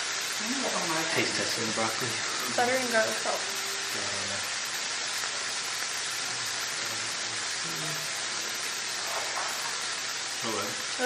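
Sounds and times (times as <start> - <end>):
broccoli sizzling in pan: 0.0 - 11.0.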